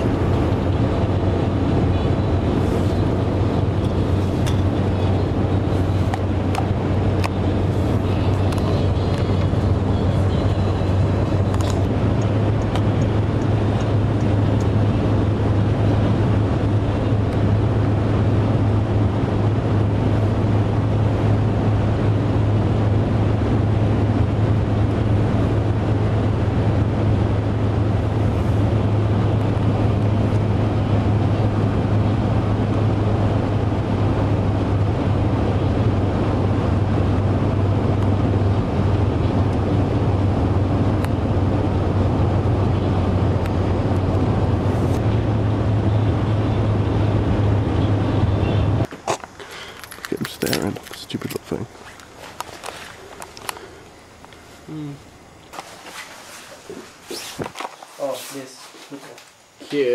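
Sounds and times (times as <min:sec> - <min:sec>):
vehicle hum and rumble: 0:00.0 - 0:59.9.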